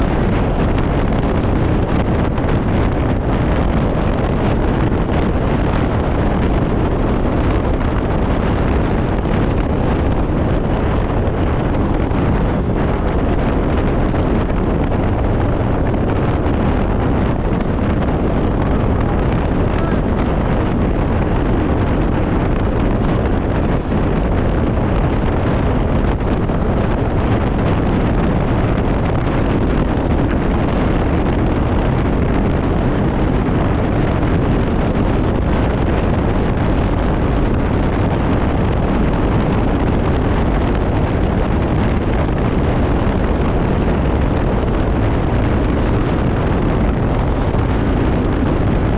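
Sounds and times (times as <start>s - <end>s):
road noise: 0.0s - 48.9s
wind rushing over microphone: 0.0s - 48.9s.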